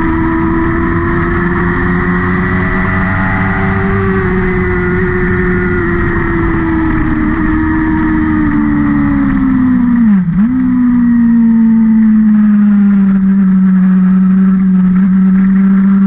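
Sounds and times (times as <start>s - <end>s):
race car engine at speed: 0.0s - 16.0s.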